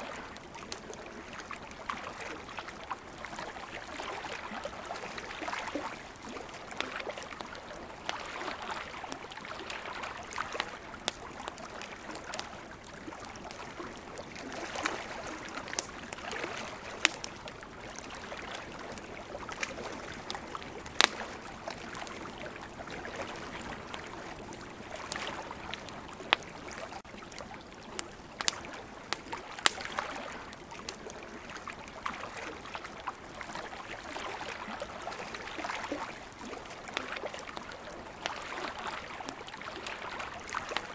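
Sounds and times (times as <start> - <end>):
ocean water washing: 0.0 - 40.9
campfire crackling and popping: 0.1 - 40.9.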